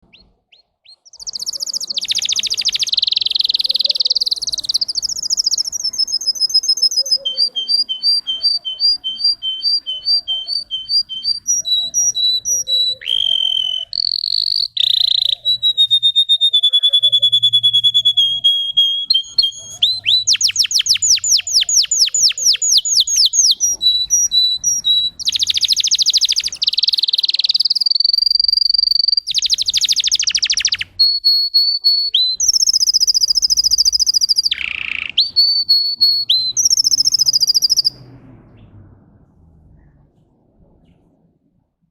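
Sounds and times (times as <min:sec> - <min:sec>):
canary singing: 0:00.0 - 0:38.6.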